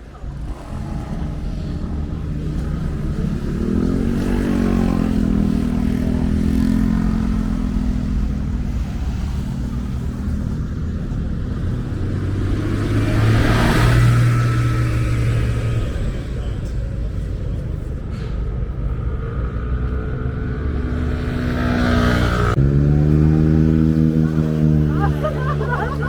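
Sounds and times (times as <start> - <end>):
engine hum: 0.0 - 26.0
motor vehicles passing: 0.0 - 26.0
rush of passing traffic: 0.0 - 26.0.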